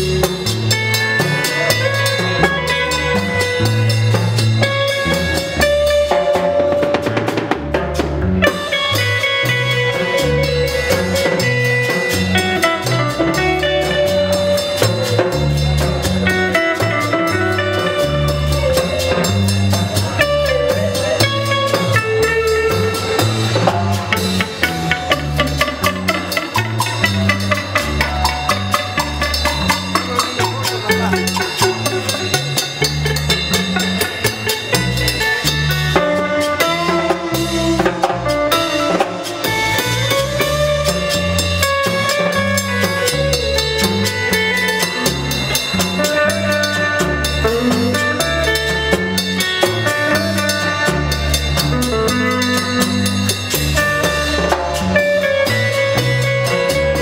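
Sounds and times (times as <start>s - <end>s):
bass line: 0.0s - 57.0s
electric guitar lead: 0.0s - 57.0s.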